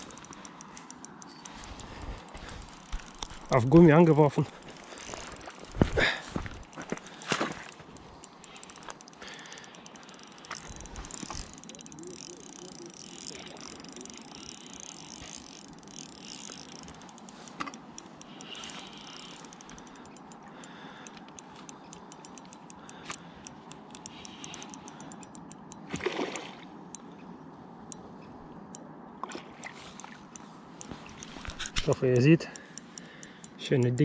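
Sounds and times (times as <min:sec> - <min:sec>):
fishing reel clicking: 0:00.0 - 0:26.2, 0:28.7 - 0:34.0.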